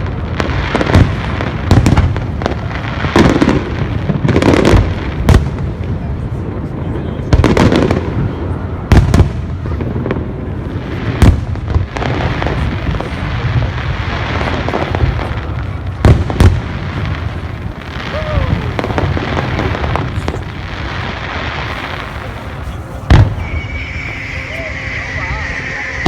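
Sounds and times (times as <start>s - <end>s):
rumble and crackle of bursts: 0.0s - 26.0s.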